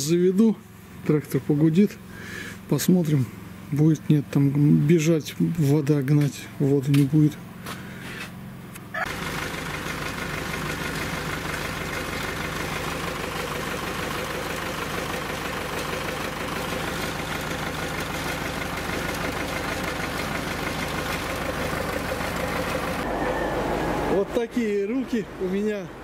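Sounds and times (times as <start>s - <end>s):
tractor diesel engine idling: 0.0s - 24.3s.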